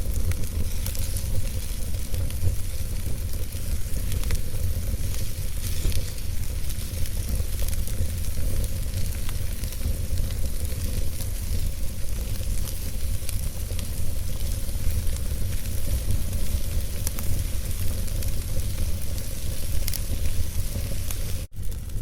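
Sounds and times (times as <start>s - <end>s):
burning logs crackling: 0.0s - 22.0s.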